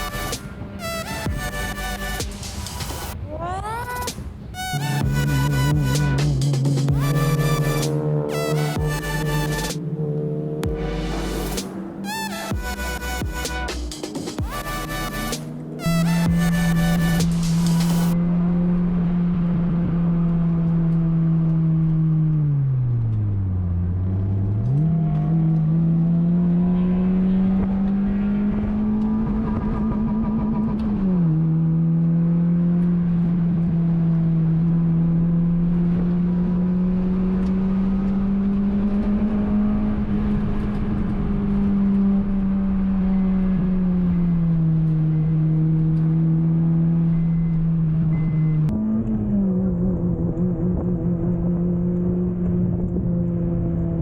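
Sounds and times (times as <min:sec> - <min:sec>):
car engine revving high: 0:00.0 - 0:03.2, 0:04.1 - 0:54.0.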